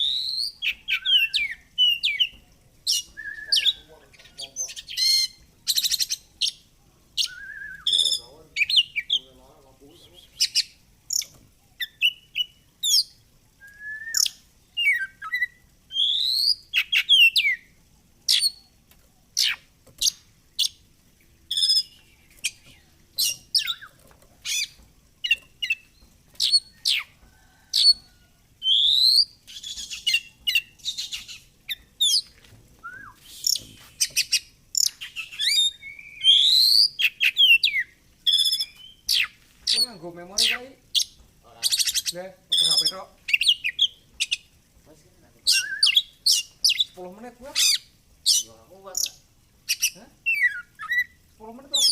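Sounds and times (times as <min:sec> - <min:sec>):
bird singing whistles and chirps: 0:00.0 - 0:06.6, 0:07.2 - 0:09.3, 0:09.9 - 0:17.7, 0:21.5 - 0:27.1, 0:28.6 - 0:44.4, 0:45.4 - 0:47.0, 0:47.6 - 0:51.9.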